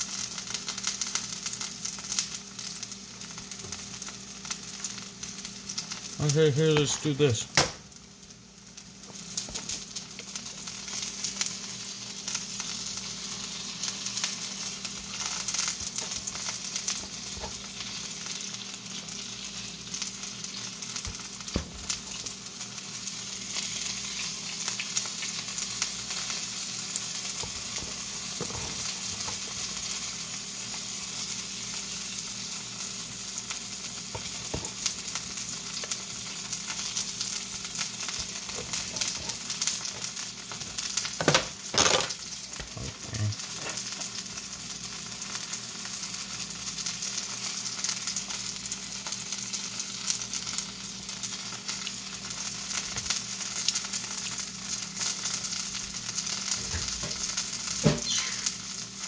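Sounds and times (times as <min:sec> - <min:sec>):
oil popping and crackling: 0:00.0 - 0:45.2, 0:45.8 - 0:59.0
food sizzling in a pan: 0:00.0 - 0:59.0.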